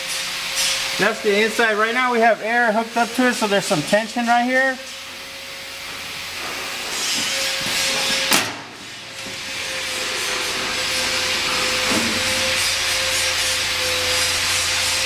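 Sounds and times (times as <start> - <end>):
compressed air hissing: 0.0 - 15.0.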